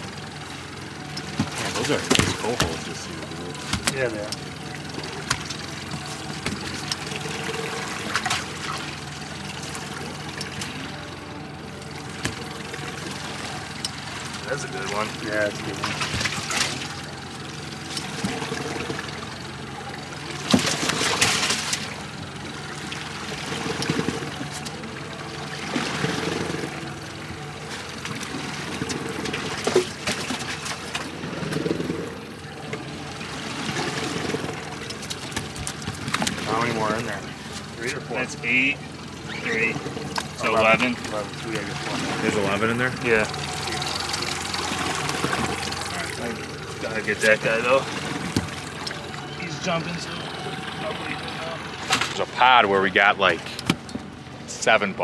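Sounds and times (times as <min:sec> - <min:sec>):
boat engine running: 0:00.0 - 0:55.0
water wash: 0:00.0 - 0:55.0.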